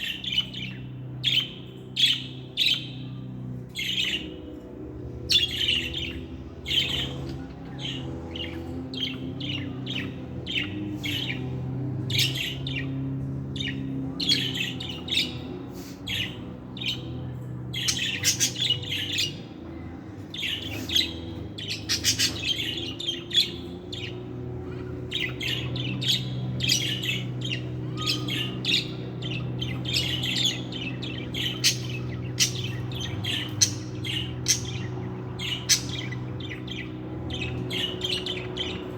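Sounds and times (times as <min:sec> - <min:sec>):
budgerigars chirping: 0:00.0 - 0:38.9
steady low hum: 0:00.0 - 0:38.9.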